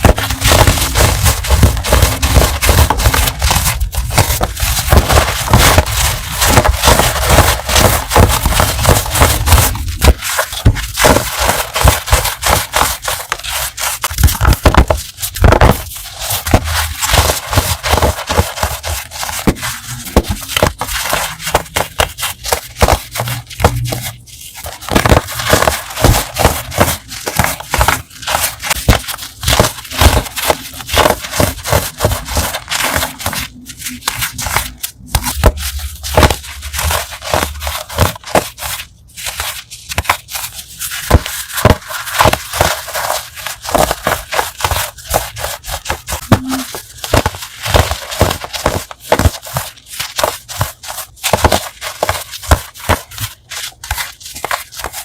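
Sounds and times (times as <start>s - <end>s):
chalk being crushed: 0.0s - 55.0s.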